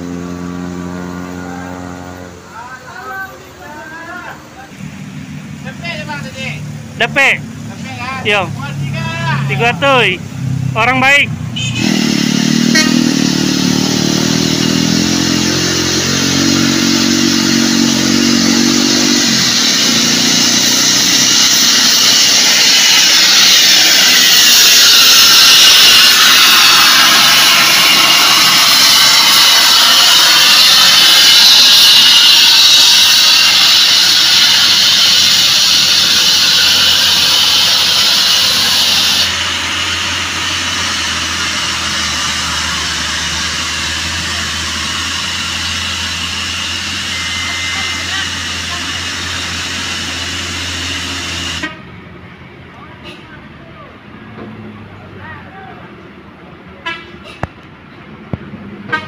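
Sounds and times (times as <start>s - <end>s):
loud jet-like whine: 0.0s - 52.2s
truck diesel engine under load: 0.0s - 59.0s.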